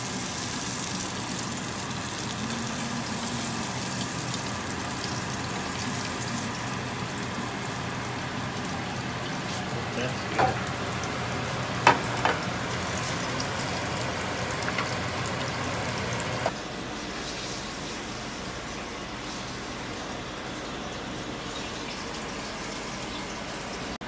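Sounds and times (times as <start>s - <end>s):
meat frying in oil: 0.0s - 24.0s.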